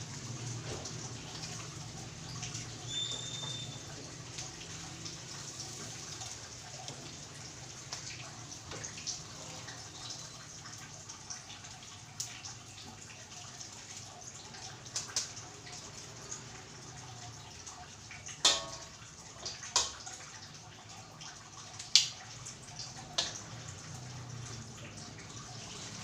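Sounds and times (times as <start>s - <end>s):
chicken deep-frying in oil: 0.0s - 26.0s.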